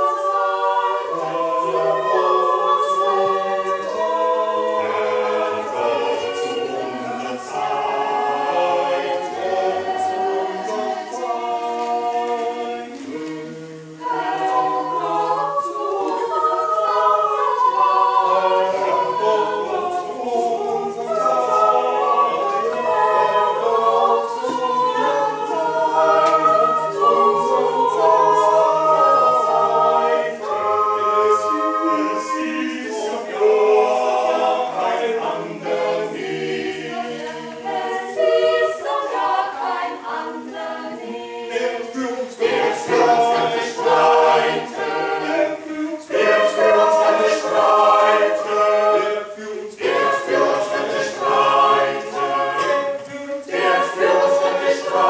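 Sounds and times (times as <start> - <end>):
mixed choir singing a cappella: 0.0 - 55.0.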